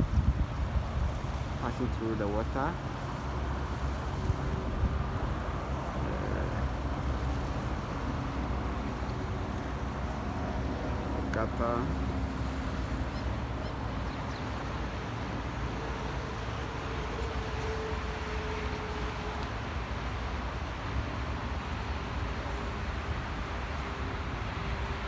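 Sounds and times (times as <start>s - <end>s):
faint vehicle whine: 0.0s - 25.0s
road traffic rumble: 0.0s - 25.0s.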